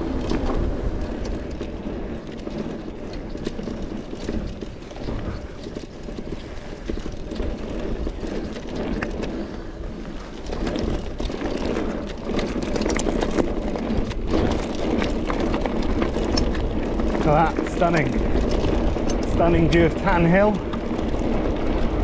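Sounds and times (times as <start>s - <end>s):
bike clicking and rattling: 0.0s - 22.0s
bike tyre noise: 0.0s - 22.0s
wind buffeting microphone: 0.0s - 22.0s.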